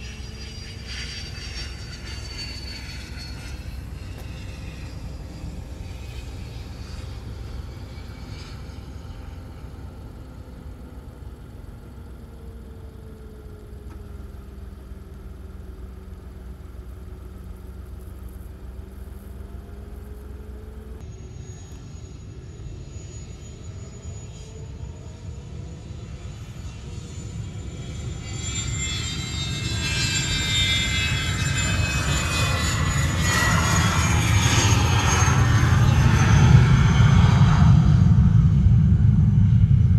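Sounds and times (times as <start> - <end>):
high turbine whine: 0.0 - 39.9
jet engines droning: 0.0 - 39.9.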